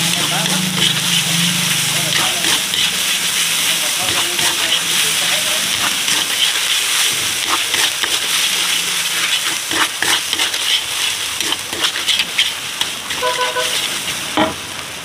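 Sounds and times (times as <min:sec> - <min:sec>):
metal spatula scraping a wok: 0:00.0 - 0:14.6
garlic sizzling in hot oil: 0:00.0 - 0:15.0.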